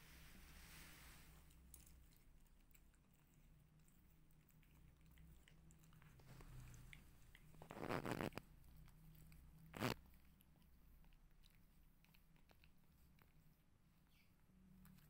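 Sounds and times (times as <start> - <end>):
kittens chewing and crunching: 1.3 - 15.0.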